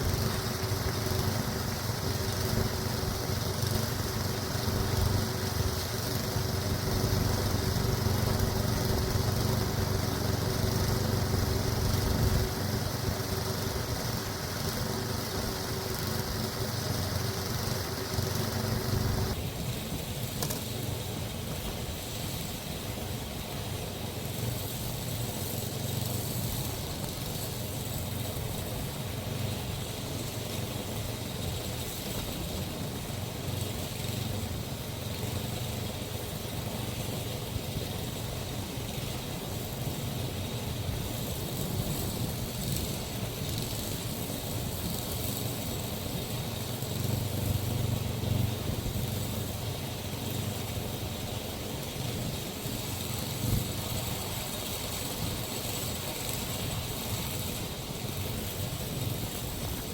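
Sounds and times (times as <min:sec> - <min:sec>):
engine humming: 0:00.0 - 0:22.4, 0:24.2 - 0:59.9.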